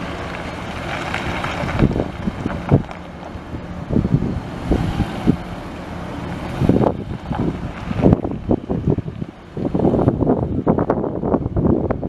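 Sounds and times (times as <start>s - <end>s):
truck engine running: 0.0s - 12.0s
wind buffeting microphone: 0.0s - 12.0s.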